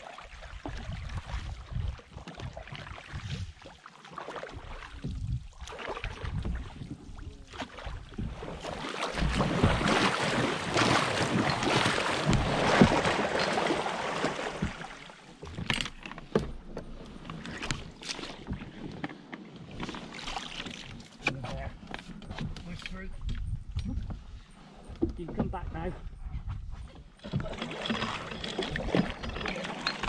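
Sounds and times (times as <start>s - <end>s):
splashes of wading: 0.0s - 23.3s, 27.0s - 30.0s
water churning around canoe: 0.0s - 30.0s.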